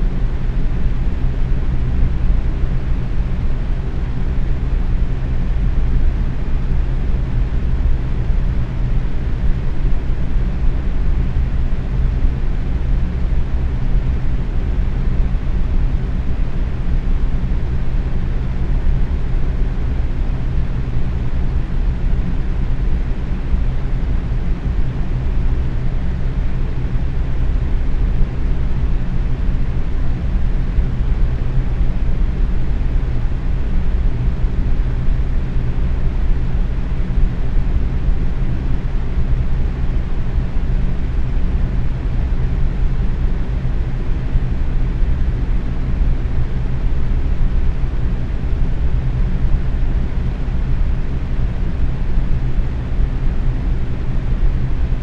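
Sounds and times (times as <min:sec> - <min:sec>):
box fan whooshing hum: 0:00.0 - 0:55.0.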